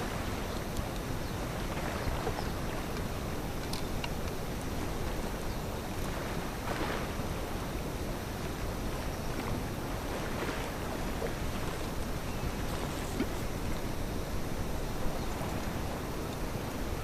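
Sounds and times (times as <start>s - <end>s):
sea washing: 0.0s - 17.0s
wind rumbling on microphone: 0.0s - 17.0s.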